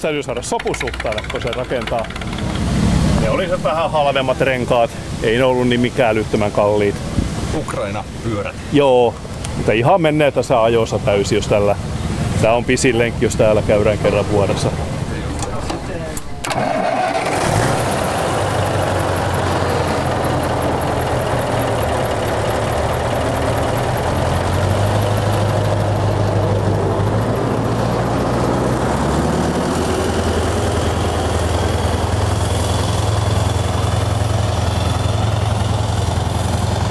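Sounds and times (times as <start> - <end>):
diesel tractor engine starting and running: 0.0 - 36.9.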